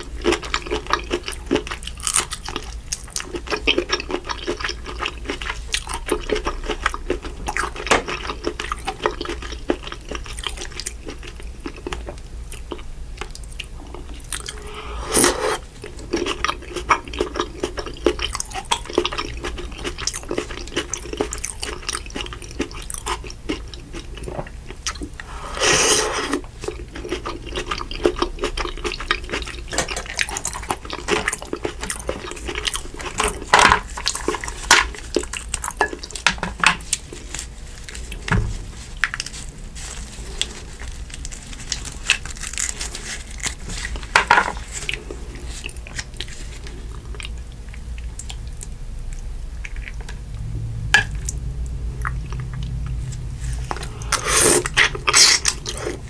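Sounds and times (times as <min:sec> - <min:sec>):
wet chewing and lip-smacking: 0:00.0 - 0:14.8, 0:15.8 - 0:25.3, 0:26.2 - 0:36.2, 0:38.9 - 0:50.2, 0:51.2 - 0:56.0.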